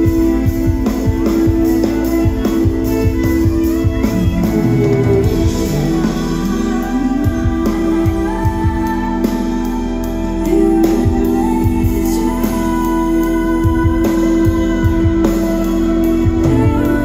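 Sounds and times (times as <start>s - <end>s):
live instrumental concert music: 0.0s - 17.0s.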